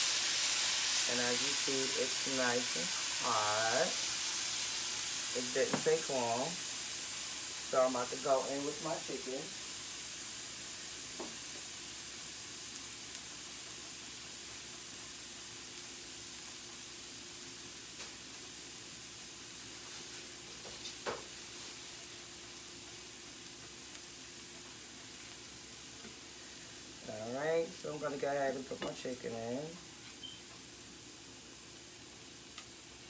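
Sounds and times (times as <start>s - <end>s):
garlic sizzling in butter: 0.0s - 33.0s.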